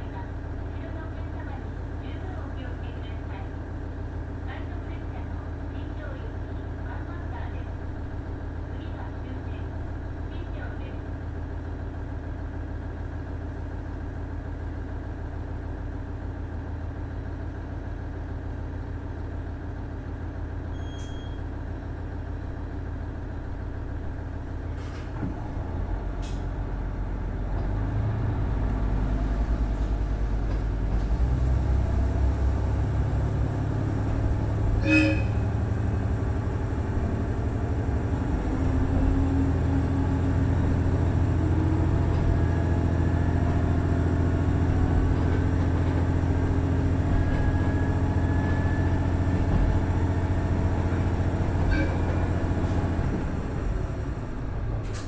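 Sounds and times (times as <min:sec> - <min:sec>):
diesel railcar engine rumbling: 0:00.0 - 0:55.0.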